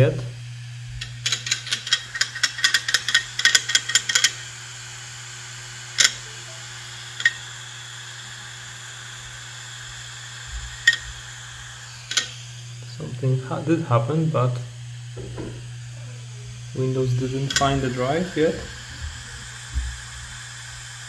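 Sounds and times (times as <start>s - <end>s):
hard disk drive humming: 0.0s - 21.0s.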